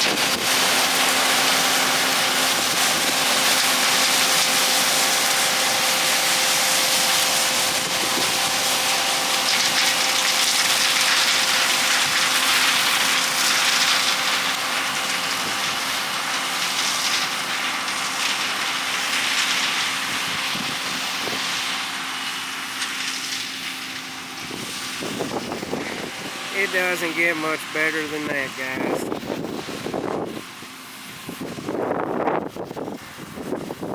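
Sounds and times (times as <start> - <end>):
combine harvester hum: 0.0 - 33.9
rushing hiss of crop: 0.0 - 33.9.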